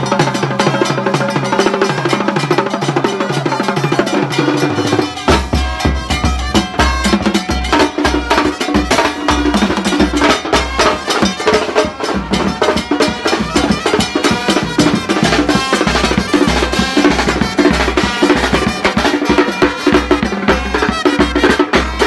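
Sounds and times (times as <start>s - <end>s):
bass drum and snare drums: 0.0s - 22.0s
trumpets playing a melody: 0.0s - 22.0s.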